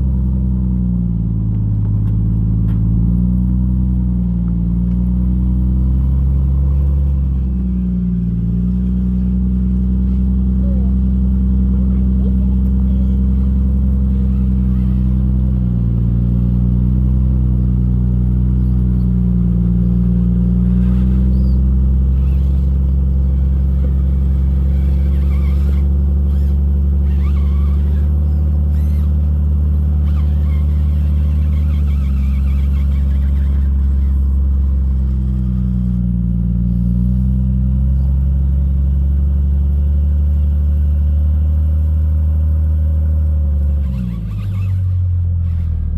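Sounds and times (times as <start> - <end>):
car engine running at low revs: 0.0 - 45.9.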